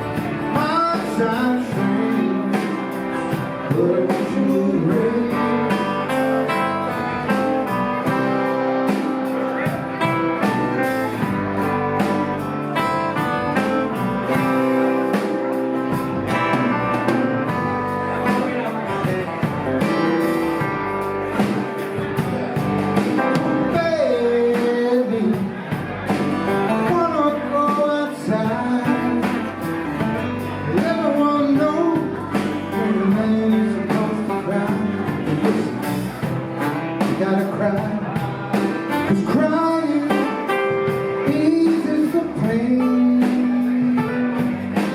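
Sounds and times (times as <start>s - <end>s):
blues band playing: 0.0s - 44.9s
lead guitar with bending pitch: 0.0s - 44.9s.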